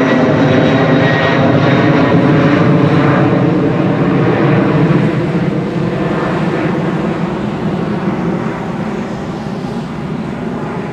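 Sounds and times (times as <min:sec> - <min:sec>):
jet engines low rumble: 0:00.0 - 0:10.9.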